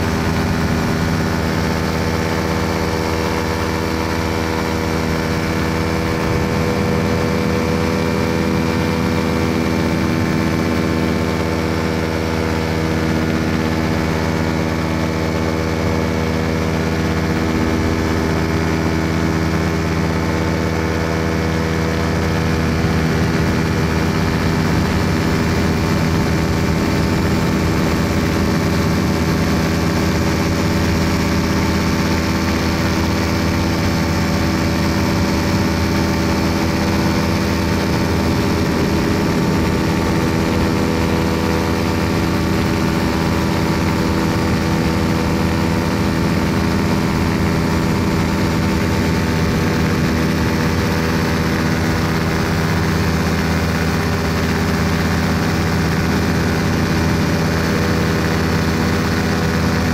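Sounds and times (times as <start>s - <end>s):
small aircraft engine: 0.0s - 59.9s.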